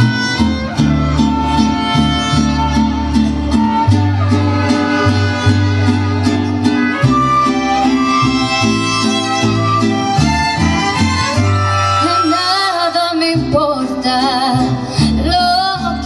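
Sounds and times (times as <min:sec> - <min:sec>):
violins playing melody: 0:00.0 - 0:13.1
guitars strumming: 0:00.0 - 0:16.0.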